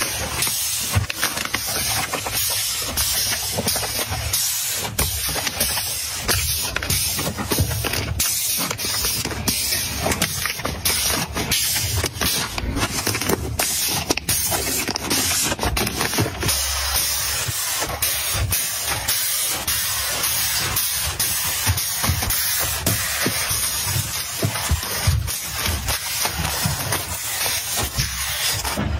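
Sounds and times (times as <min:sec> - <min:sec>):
plastic wrapping crinkling: 0:00.0 - 0:28.9.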